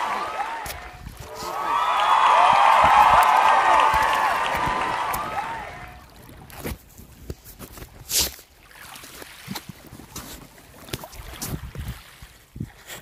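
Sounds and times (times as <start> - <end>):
seawater splashing and sloshing: 0.0 - 13.0.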